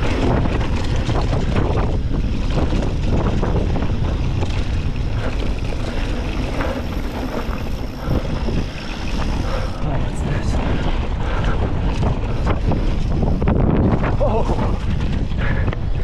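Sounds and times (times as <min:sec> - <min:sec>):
bike rattles and clicks: 0:00.0 - 0:16.0
bike tyres rolling on dirt: 0:00.0 - 0:16.0
wind buffeting microphone: 0:00.0 - 0:16.0.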